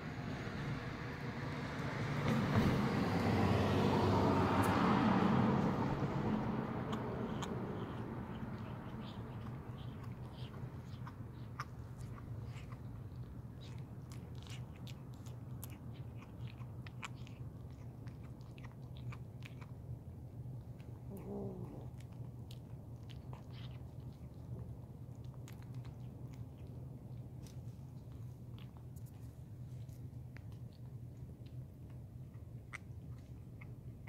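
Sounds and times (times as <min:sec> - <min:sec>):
kittens crunching food: 0:04.6 - 0:34.0.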